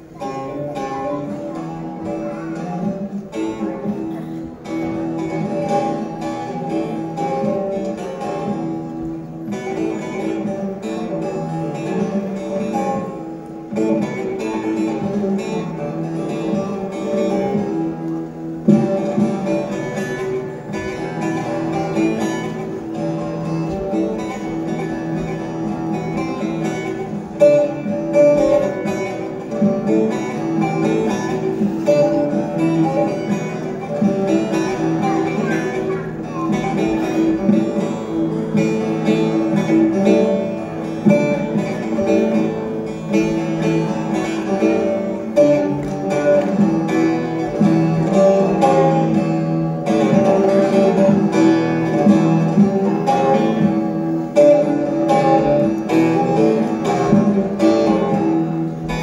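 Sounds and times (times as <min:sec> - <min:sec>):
plucked lute melody: 0:00.0 - 0:59.0.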